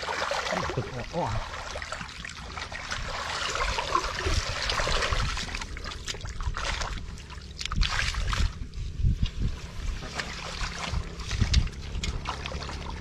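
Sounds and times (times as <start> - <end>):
feet wading through water: 0.0 - 13.0
muddy water sloshing and splashing: 0.0 - 13.0.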